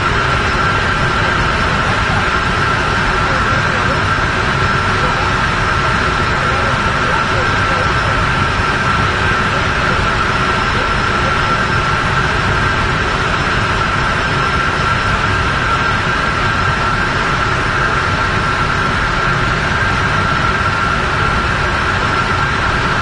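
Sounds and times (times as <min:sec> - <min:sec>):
high machine whine: 0:00.0 - 0:23.0
industrial machinery rumble and hiss: 0:00.0 - 0:23.0.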